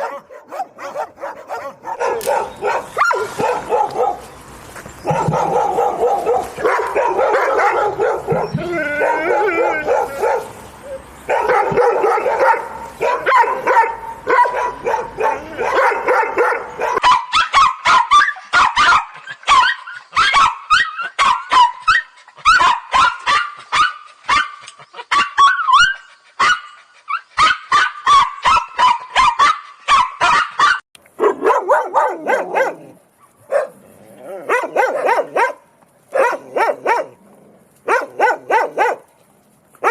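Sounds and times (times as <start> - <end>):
dogs barking angrily: 0.0 - 39.2.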